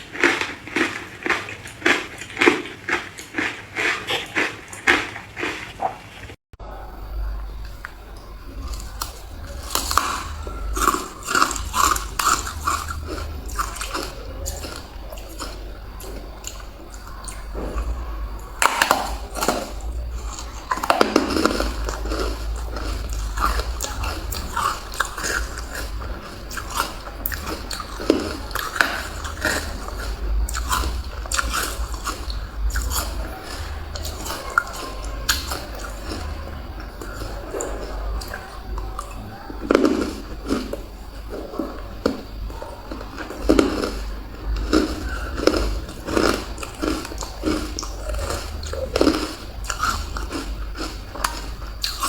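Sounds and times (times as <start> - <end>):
ice crunching while chewed: 0.0 - 6.3, 8.6 - 52.0.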